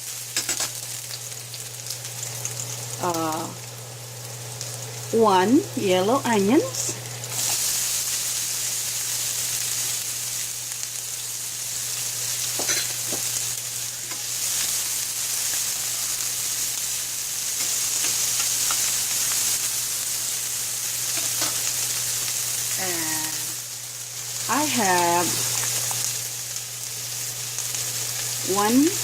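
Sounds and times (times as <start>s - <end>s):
onion sizzling in a frying pan: 0.0s - 29.0s.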